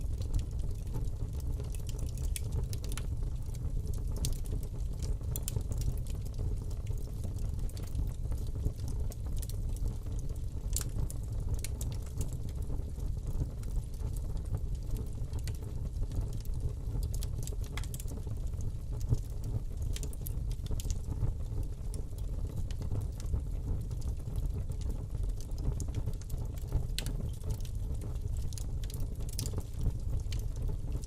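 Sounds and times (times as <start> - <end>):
fire crackling and popping: 0.0 - 31.0
low rumble of flames: 0.0 - 31.0.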